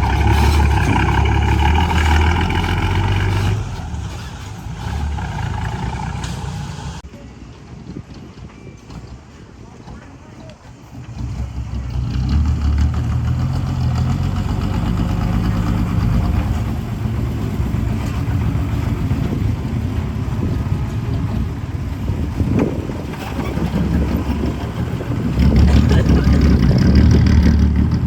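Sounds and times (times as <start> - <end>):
heavy diesel engine running: 0.0 - 7.0, 10.7 - 28.0.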